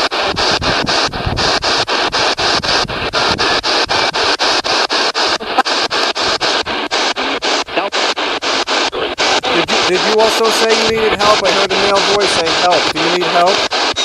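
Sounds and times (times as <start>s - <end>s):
radio static bursts: 0.0s - 14.0s.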